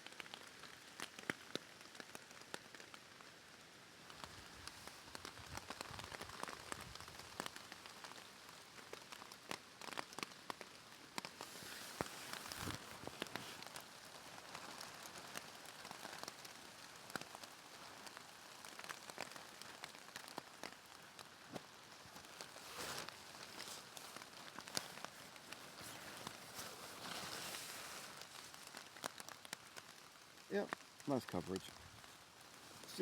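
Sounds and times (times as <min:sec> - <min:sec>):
rain on plastic sheeting: 0:00.0 - 0:33.0.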